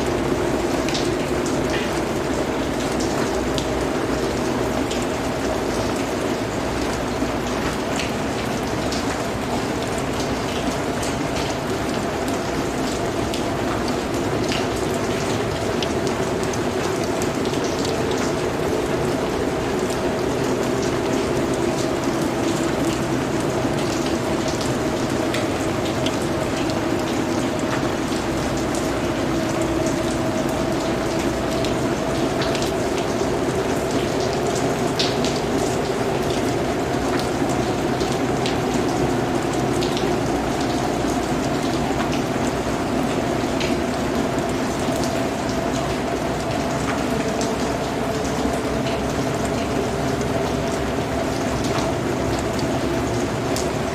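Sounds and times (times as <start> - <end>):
rain on foliage: 0.0 - 53.9.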